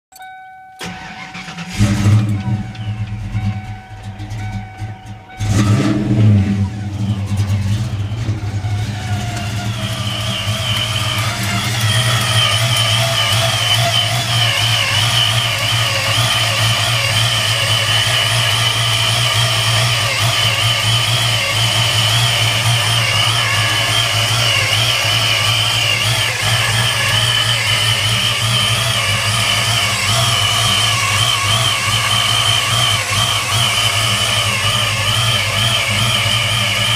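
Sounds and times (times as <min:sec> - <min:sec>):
car engine idling: 0:00.8 - 0:36.9
supercharger whine: 0:00.8 - 0:36.9.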